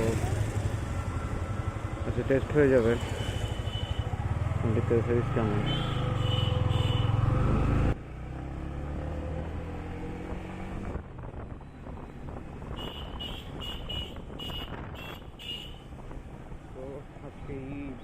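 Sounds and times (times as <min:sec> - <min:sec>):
motorcycle engine: 0:00.0 - 0:16.7.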